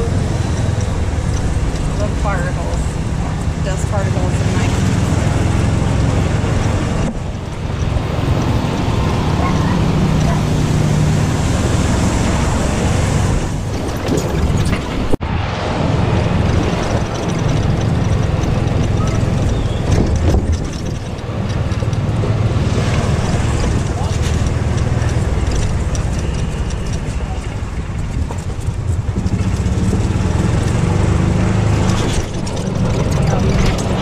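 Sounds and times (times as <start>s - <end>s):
golf cart low rumble: 0.0s - 34.0s
rush of air and road noise: 0.0s - 34.0s.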